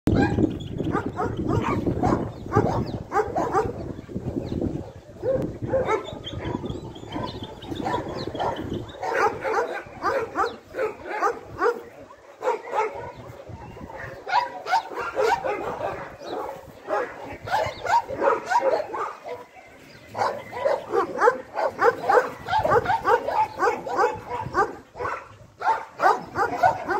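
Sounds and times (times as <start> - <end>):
dogs barking and yipping: 0.1 - 26.9.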